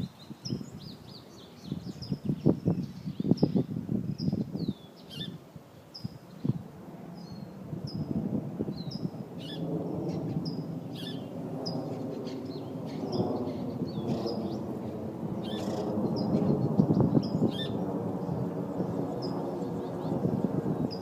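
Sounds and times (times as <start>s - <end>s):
small birds chirping: 0.0s - 6.6s, 7.2s - 21.0s.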